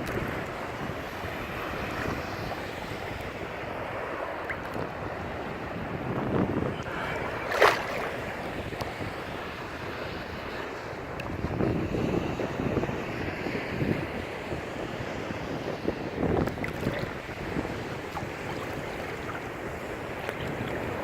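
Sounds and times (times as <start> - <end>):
ocean surf washing: 0.0 - 21.0
wind buffeting microphone: 0.0 - 21.0.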